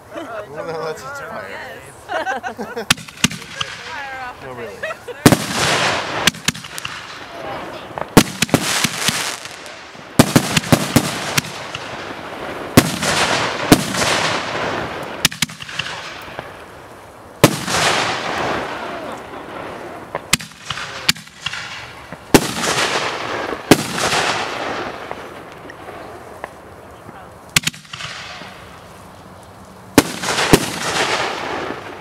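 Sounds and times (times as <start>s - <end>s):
fireworks hiss: 0.0s - 32.0s
fireworks bangs: 0.7s - 29.0s, 29.9s - 32.0s.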